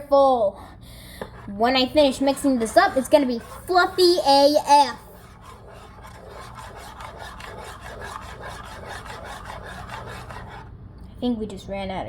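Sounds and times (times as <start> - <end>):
slime stirred in a bowl: 0.0 - 10.7.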